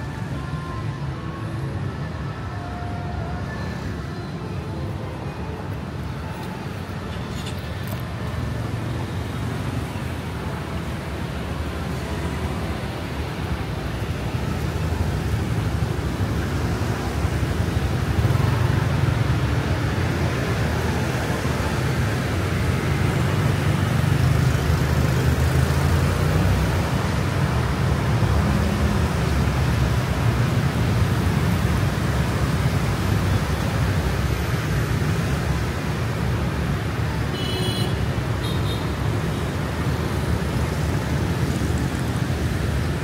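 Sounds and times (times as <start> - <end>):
vehicle engines and tyres: 0.0 - 43.0.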